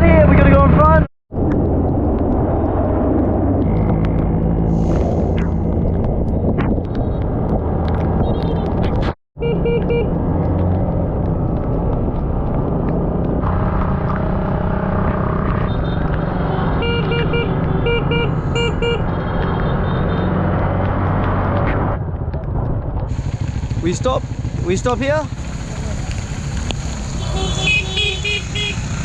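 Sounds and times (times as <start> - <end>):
wind noise: 1.3 - 28.2
dirt bike engine running: 1.7 - 29.0.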